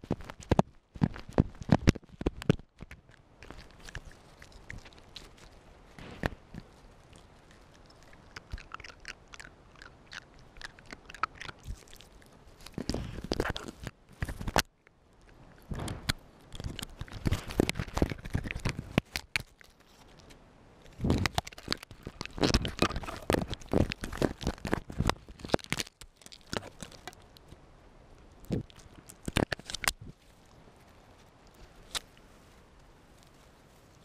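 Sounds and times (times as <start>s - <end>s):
teeth crunching on plastic: 0.0s - 27.6s, 28.2s - 32.2s.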